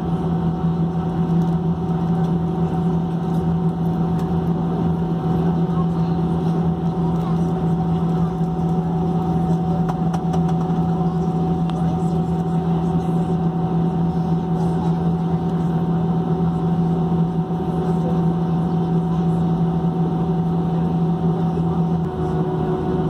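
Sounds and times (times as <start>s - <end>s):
jet engines droning in cabin: 0.0s - 23.0s.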